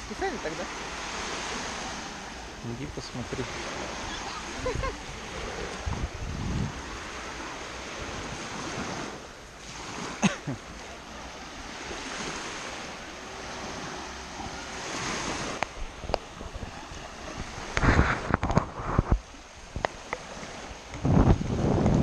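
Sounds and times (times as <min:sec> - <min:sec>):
small waves washing on sand: 0:00.0 - 0:22.0
wind on microphone: 0:01.2 - 0:10.1, 0:11.4 - 0:22.0.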